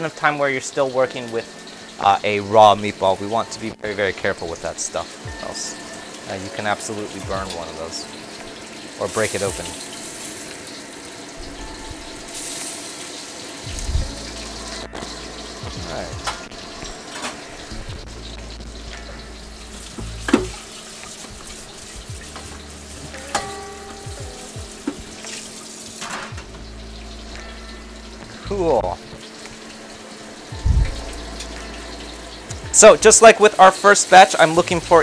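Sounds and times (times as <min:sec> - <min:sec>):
lofi background music: 0:00.0 - 0:35.0
meatballs sizzling in oil: 0:00.0 - 0:35.0.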